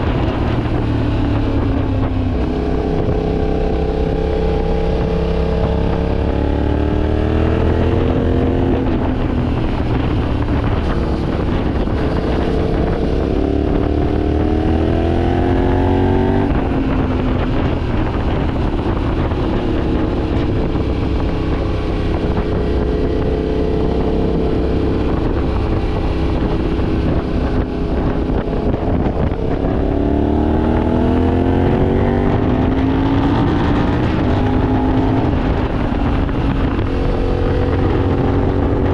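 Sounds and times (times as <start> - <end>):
motorcycle engine accelerating: 0.0 - 38.9
wind noise on microphone: 0.0 - 38.9.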